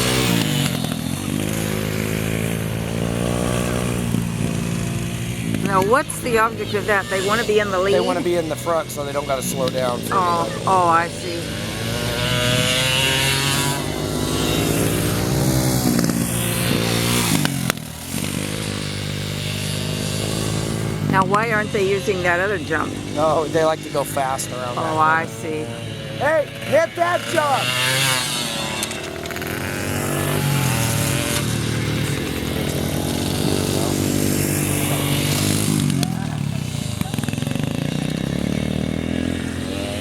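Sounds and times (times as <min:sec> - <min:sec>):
dirt bike engines revving: 0:00.0 - 0:40.0.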